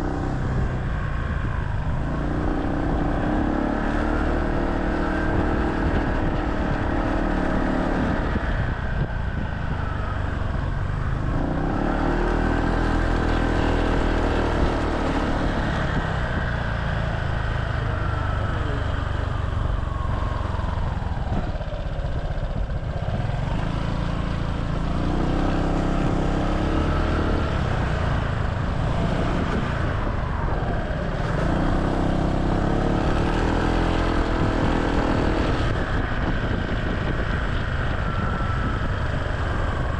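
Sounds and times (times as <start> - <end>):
motorcycle engine revving: 0.0 - 39.9
road noise: 0.0 - 39.9.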